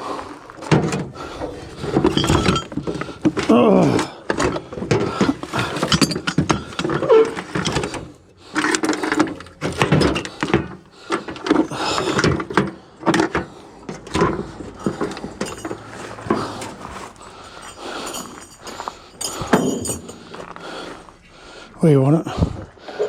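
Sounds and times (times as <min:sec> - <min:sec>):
sawmill gear knocking and clattering: 0:00.6 - 0:20.6.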